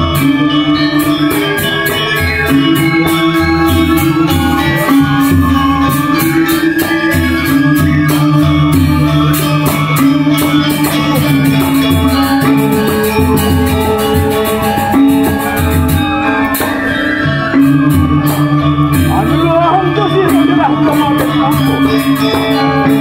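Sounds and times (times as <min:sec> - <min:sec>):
metallophones ringing: 0:00.0 - 0:23.0.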